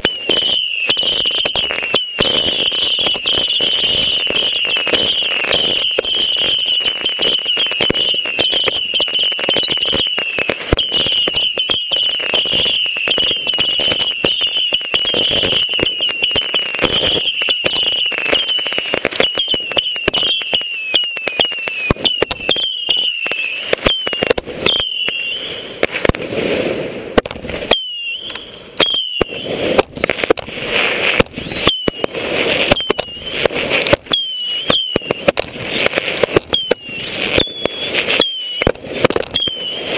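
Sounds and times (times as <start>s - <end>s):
fireworks popping and crackling: 0.0s - 39.9s
fireworks whistles sliding down: 0.0s - 39.9s.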